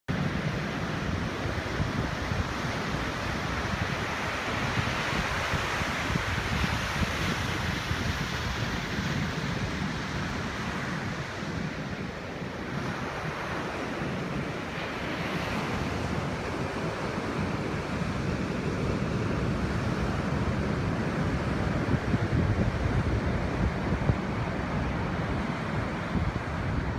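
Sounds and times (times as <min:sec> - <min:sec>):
surf breaking on beach: 0:00.1 - 0:26.9
wind gusting on microphone: 0:00.1 - 0:26.9.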